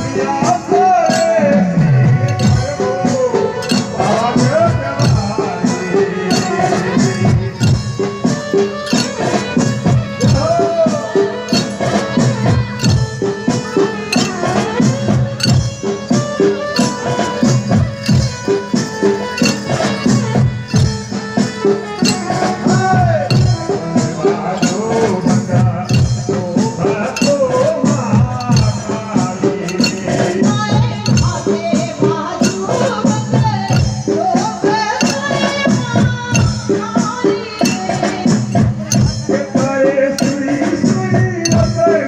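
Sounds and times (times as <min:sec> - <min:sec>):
folk music with fast beat: 0:00.0 - 0:42.0
jingling shaker percussion: 0:00.0 - 0:42.0.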